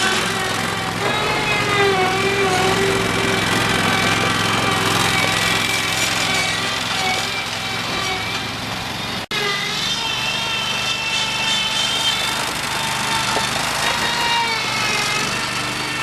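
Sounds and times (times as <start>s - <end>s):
backhoe engine running: 0.0s - 16.0s.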